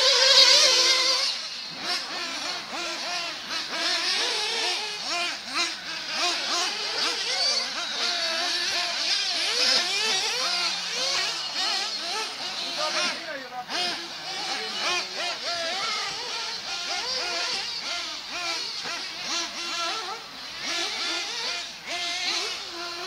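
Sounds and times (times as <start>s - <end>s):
small nitro engines revving: 0.0s - 23.0s.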